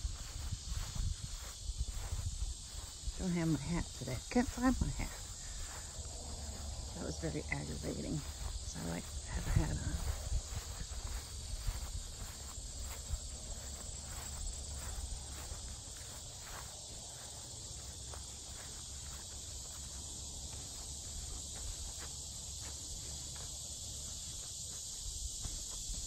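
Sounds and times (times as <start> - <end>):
footsteps on dirt trail: 0.0 - 26.0
high-pitched insect drone: 0.0 - 26.0.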